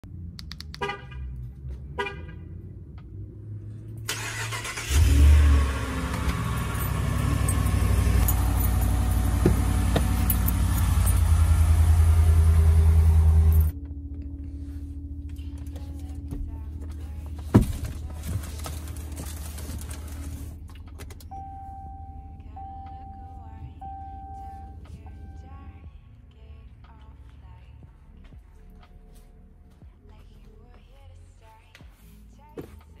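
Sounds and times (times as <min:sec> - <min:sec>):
truck engine starting and running: 0:00.0 - 0:29.8.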